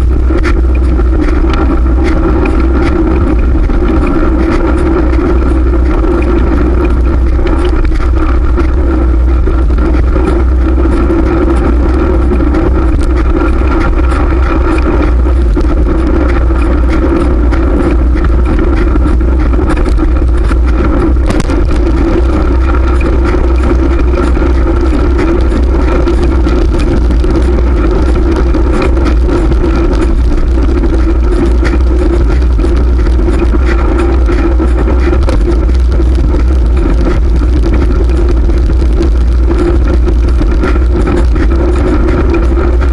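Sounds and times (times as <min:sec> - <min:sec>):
bicycle riding rush: 0:00.0 - 0:42.9.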